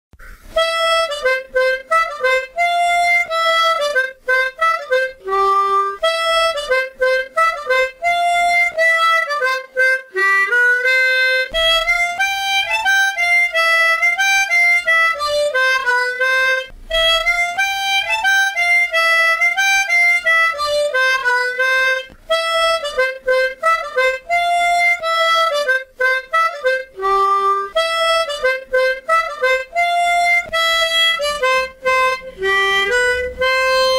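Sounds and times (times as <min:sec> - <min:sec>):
harmonica melody: 0:00.2 - 0:33.9.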